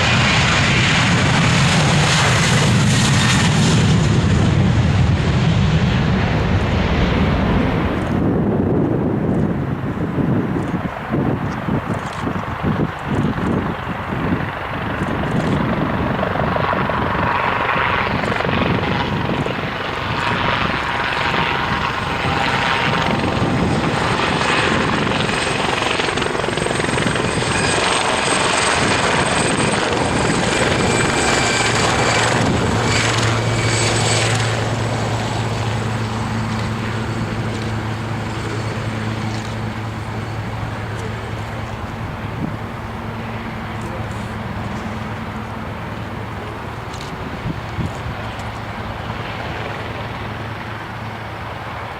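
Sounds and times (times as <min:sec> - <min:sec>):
aircraft turbine engines roaring: 0:00.0 - 0:51.9.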